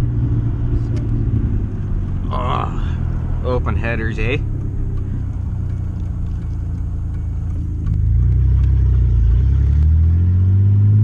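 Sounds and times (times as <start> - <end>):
truck engine accelerating: 0.0 - 11.0.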